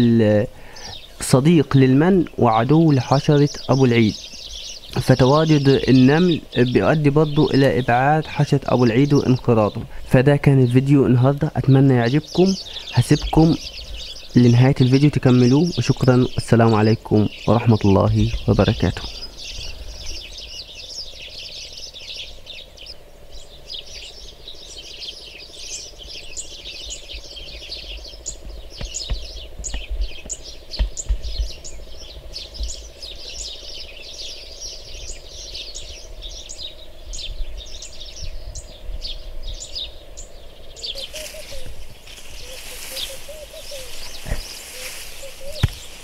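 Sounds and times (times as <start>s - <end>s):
faint steady hum: 0.0s - 46.0s
small birds chirping: 0.0s - 46.0s.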